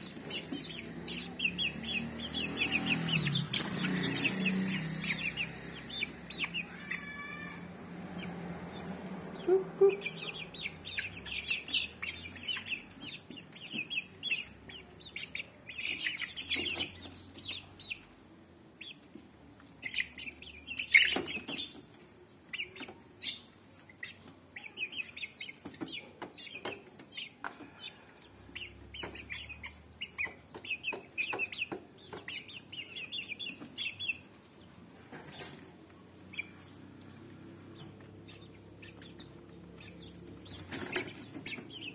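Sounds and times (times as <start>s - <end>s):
chicks peeping and clucking: 0.0s - 41.9s.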